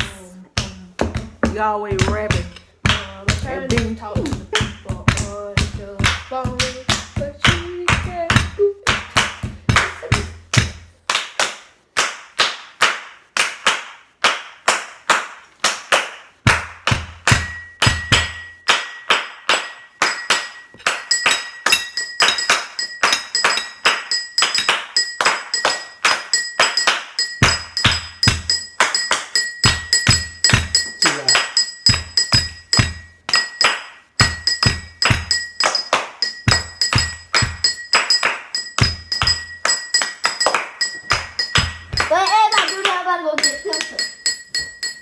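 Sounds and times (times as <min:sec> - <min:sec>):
hand claps and table knocks: 0:00.6 - 0:45.0.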